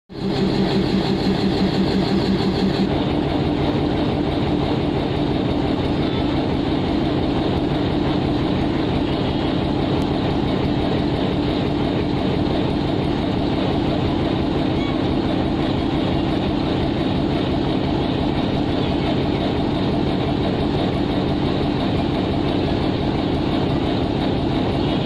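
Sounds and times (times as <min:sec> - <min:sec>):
diesel locomotive engine drone: 0:00.1 - 0:25.0.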